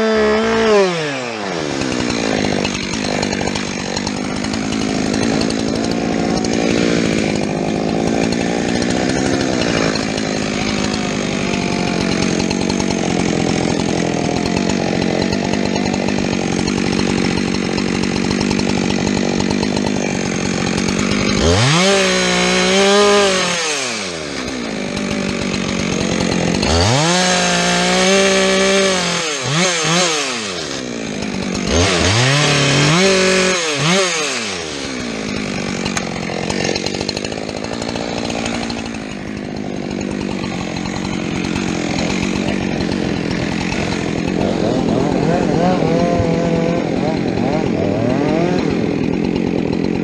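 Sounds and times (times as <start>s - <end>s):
chainsaw revving and idling: 0.0s - 50.0s.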